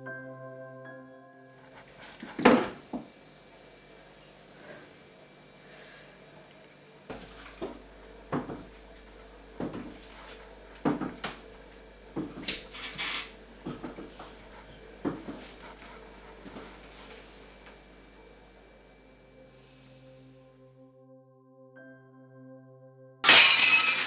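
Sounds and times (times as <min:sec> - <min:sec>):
low steady hum: 0:00.0 - 0:20.8.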